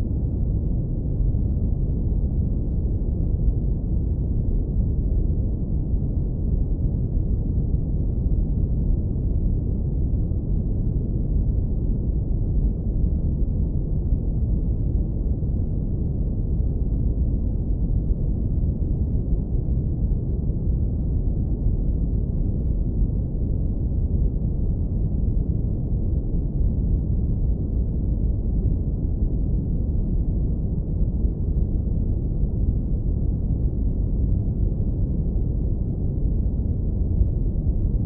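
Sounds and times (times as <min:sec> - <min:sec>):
deep brown noise rumble: 0:00.0 - 0:38.0.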